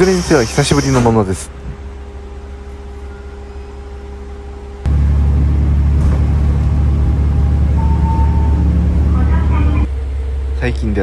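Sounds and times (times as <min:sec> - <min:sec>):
diesel engine idling: 0:00.0 - 0:11.0
railcar engine loud drone: 0:00.0 - 0:11.0.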